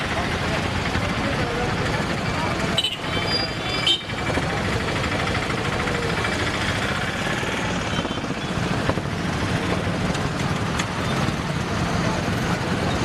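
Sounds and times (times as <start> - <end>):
busy street noise: 0.0 - 13.0
heavy vehicle engine running: 0.0 - 13.0.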